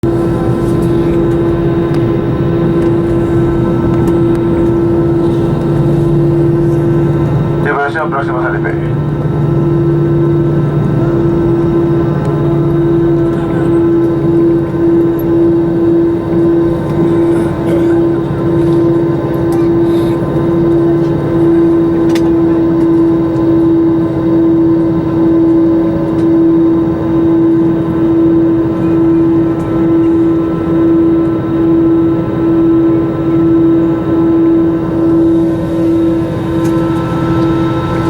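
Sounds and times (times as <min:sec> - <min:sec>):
airliner cabin hum in flight: 0:00.0 - 0:38.0.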